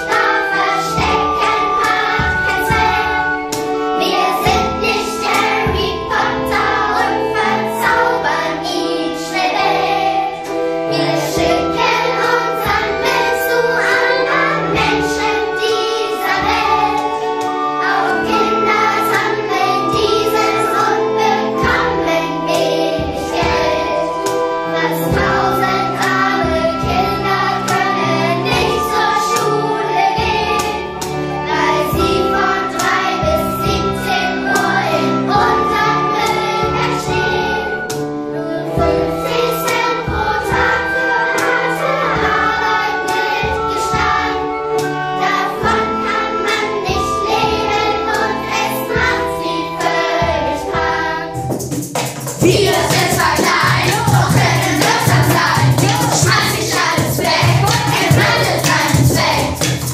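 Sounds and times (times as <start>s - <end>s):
band playing: 0.0s - 59.9s
children's choir singing: 0.0s - 59.9s.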